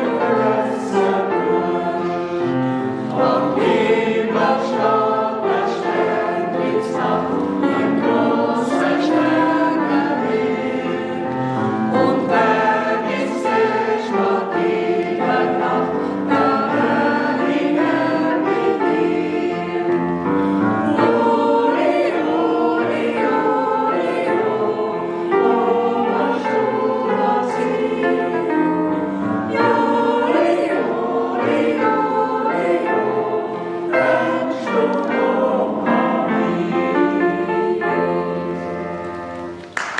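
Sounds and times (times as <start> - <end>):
choir singing: 0.0 - 39.7.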